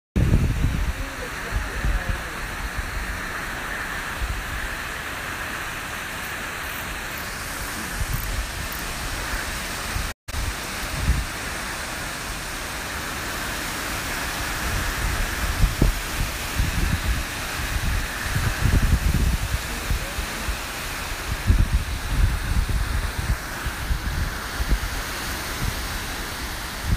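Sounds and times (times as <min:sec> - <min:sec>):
gusts buffeting microphone: 0:00.2 - 0:26.9
hurricane wind and rain: 0:00.2 - 0:26.9.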